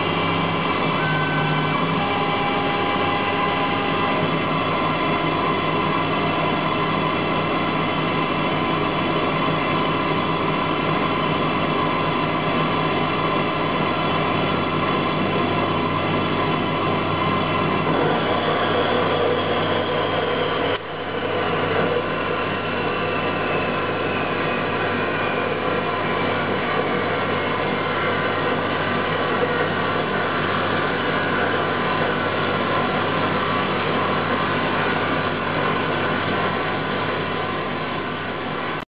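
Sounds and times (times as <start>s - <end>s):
high whine falling in pitch: 0.0s - 38.8s
lathe whirring: 0.0s - 38.8s.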